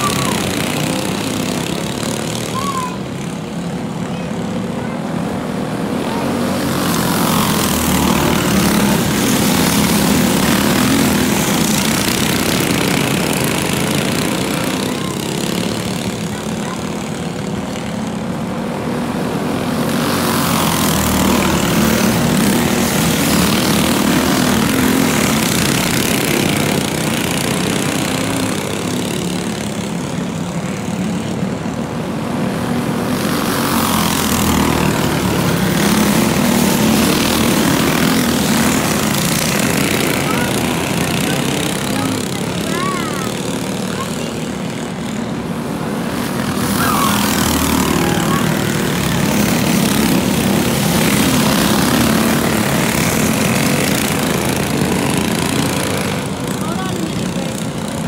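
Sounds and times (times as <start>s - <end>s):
kart engines buzzing: 0.0s - 58.0s.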